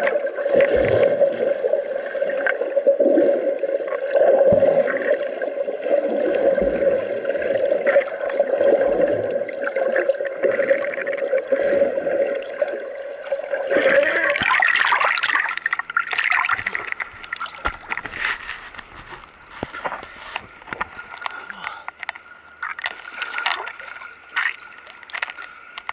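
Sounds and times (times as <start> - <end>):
water gurgling and bubbling: 0.0 - 21.6
steady underwater hum: 0.0 - 25.9.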